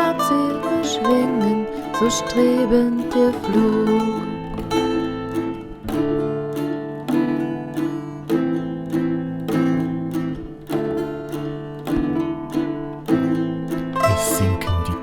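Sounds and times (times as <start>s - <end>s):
plucked strings playing: 0.0s - 15.0s.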